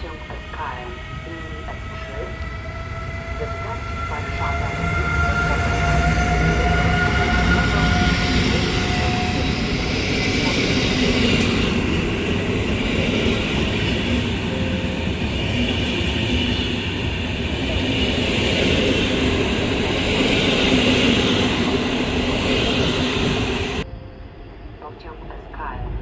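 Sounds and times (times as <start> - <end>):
train wheels rumbling on rails: 0.0 - 23.9.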